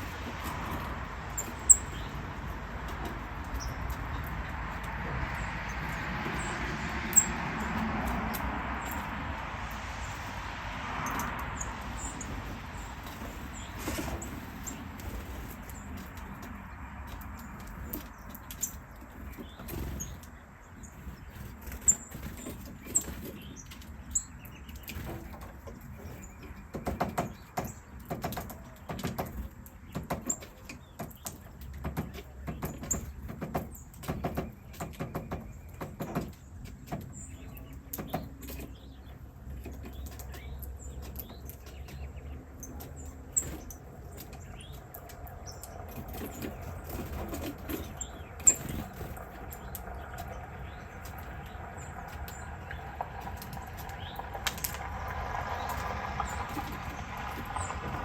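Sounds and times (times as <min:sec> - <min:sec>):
rustling and wing fluttering: 0:00.0 - 0:27.3, 0:38.1 - 0:58.0
tiny birds chirping: 0:00.0 - 0:58.0.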